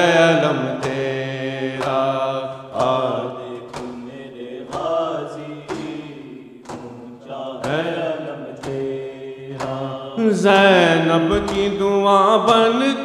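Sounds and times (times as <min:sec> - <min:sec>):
voices chanting a lament: 0:00.0 - 0:13.0
hands beating chests in unison: 0:00.5 - 0:10.0, 0:11.3 - 0:12.8.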